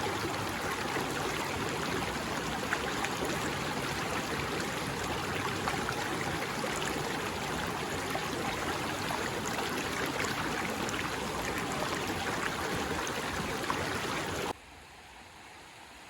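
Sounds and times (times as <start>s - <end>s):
running water rushing: 0.0s - 14.6s.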